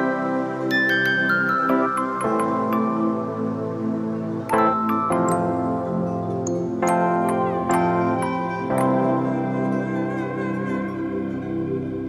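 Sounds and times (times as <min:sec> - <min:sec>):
background music chords: 0:00.0 - 0:12.0.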